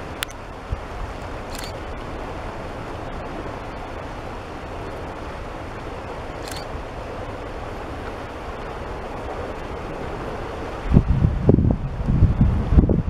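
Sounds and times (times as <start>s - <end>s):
river rushing over rocks: 0.0s - 11.4s
wind on microphone: 0.0s - 13.0s.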